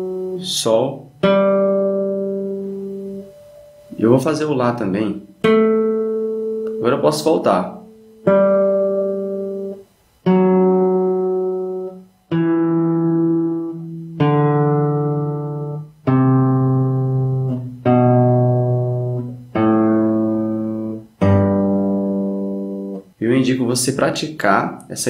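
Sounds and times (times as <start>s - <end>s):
classical guitar plucked notes: 0.0s - 23.2s.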